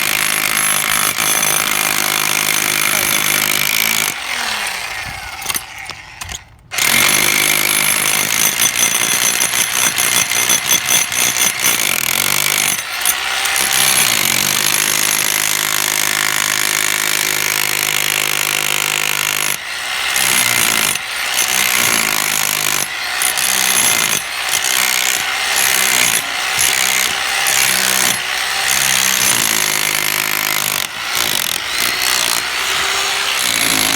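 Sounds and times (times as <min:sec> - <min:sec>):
demolition hammer on concrete: 0:00.0 - 0:33.9.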